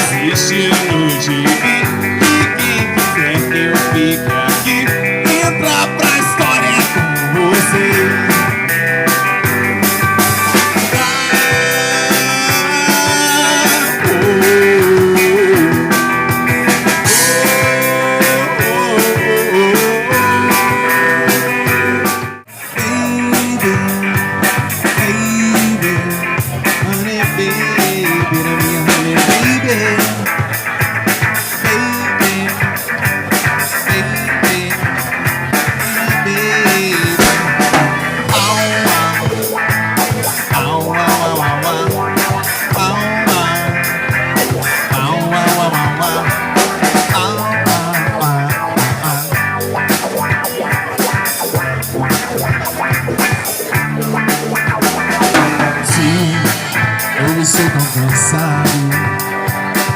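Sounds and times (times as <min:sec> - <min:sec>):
drum kit: 0:00.0 - 0:59.9
electric guitar: 0:00.0 - 0:59.9
live rock band playing: 0:00.0 - 0:59.9.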